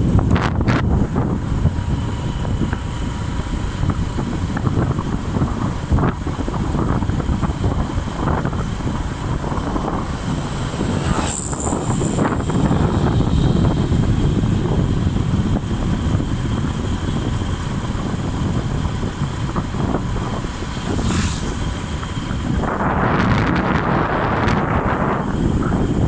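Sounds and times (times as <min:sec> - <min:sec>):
vehicle road noise: 0:00.0 - 0:26.0
wind buffeting microphone: 0:00.0 - 0:26.0.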